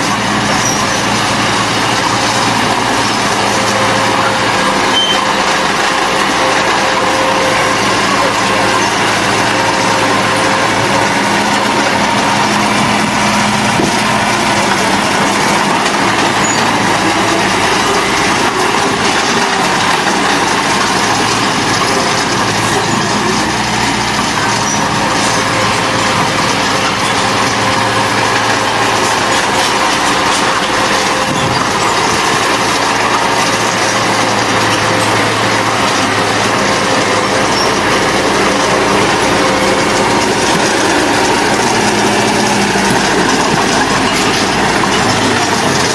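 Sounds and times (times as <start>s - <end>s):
diesel engines running under load: 0.0s - 45.9s.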